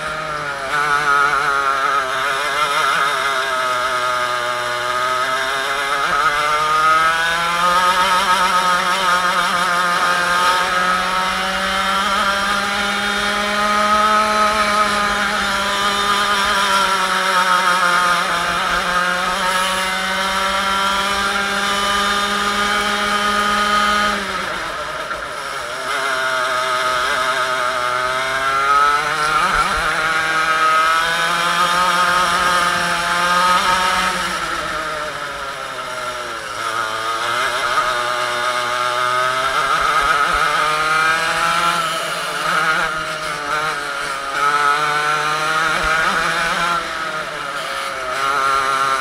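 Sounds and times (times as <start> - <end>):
racing kart engine revving: 0.0 - 49.0.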